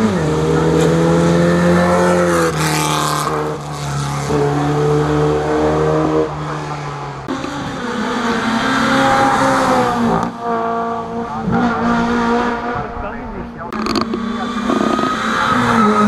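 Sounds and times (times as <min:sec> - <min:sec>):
rally car engine revving hard: 0:00.0 - 0:16.0.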